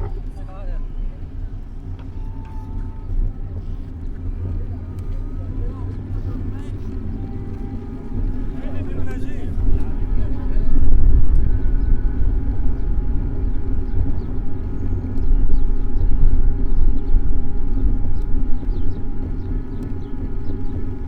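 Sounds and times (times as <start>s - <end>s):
wind and road noise rumble: 0.0s - 21.0s.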